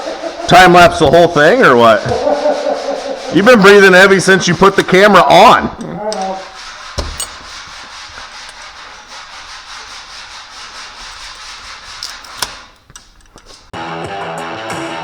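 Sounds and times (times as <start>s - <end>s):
sandpaper rasping on filler: 0.0s - 5.6s, 6.2s - 12.8s.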